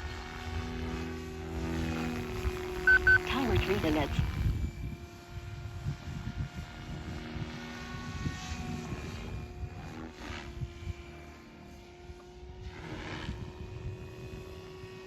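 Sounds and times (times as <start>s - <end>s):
rc helicopter motor whine: 0.0s - 2.8s, 4.2s - 15.0s.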